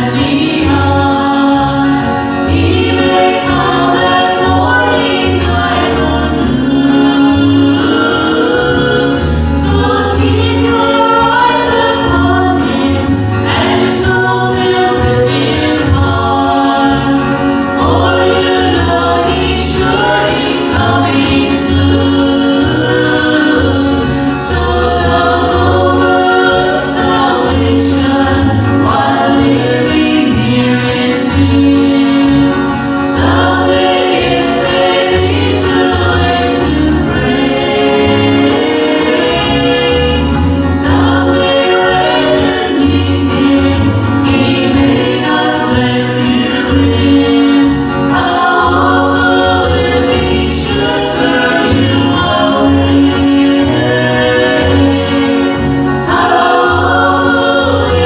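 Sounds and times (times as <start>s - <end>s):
gospel group singing: 0.0s - 58.0s
pulsing bass line: 0.0s - 58.0s.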